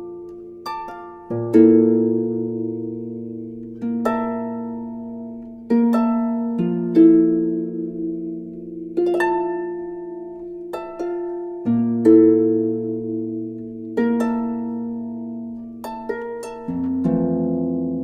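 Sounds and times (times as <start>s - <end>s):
soft instrumental music chords: 0.0s - 18.0s.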